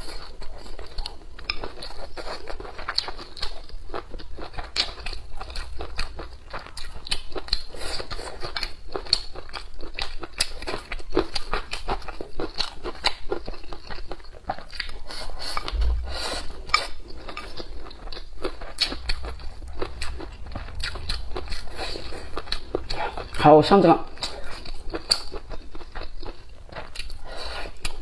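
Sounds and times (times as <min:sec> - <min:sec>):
wet crunchy chewing: 0:00.0 - 0:28.0.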